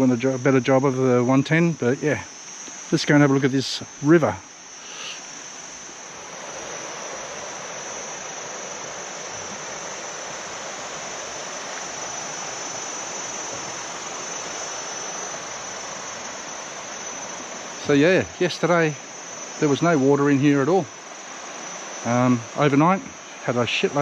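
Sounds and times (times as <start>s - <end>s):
insects droning: 0.0s - 24.0s
river water rushing: 4.2s - 24.0s.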